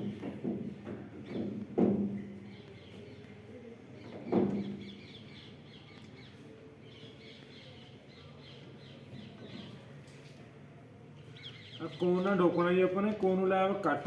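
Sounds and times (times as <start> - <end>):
small birds chirping: 0.0 - 10.4, 11.1 - 13.9.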